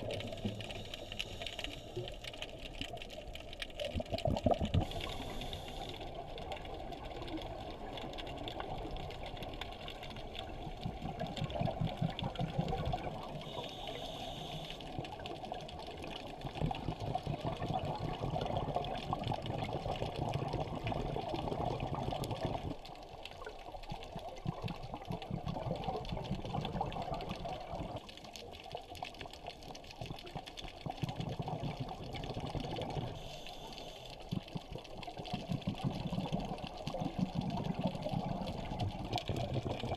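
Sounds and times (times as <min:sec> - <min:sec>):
fast crackle of tiny clicks: 0:00.0 - 0:39.9
underwater water noise: 0:00.0 - 0:39.9.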